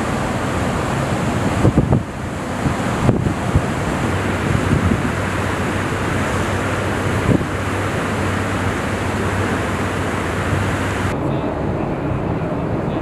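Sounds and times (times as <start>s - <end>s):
low ship hum: 0.0s - 13.0s
wind buffeting microphone: 0.0s - 13.0s.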